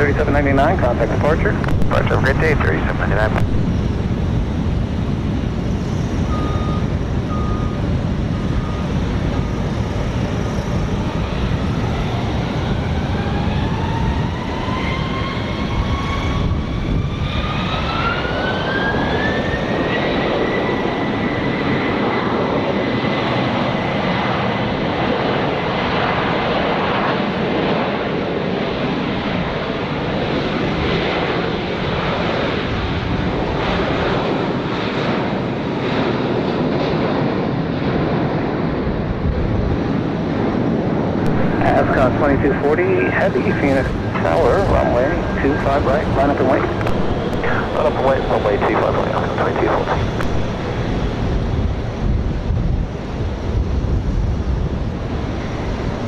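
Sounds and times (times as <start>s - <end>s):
jet engine whine: 0.0s - 56.0s
jet engines rumbling: 0.0s - 56.0s.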